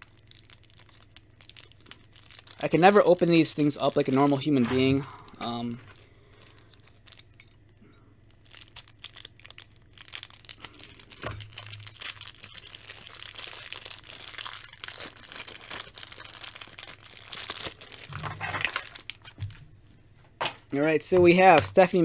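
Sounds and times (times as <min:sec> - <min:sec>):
plastic bag crinkling and tearing: 0:00.0 - 0:19.8.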